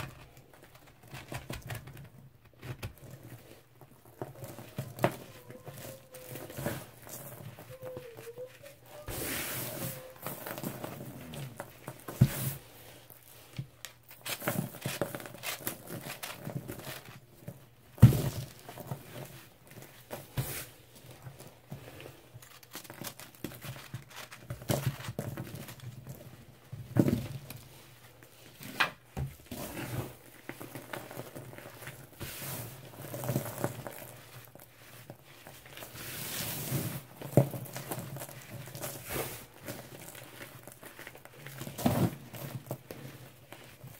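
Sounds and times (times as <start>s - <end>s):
hands crunching dried powder slab: 2.6s - 26.0s, 29.4s - 43.9s.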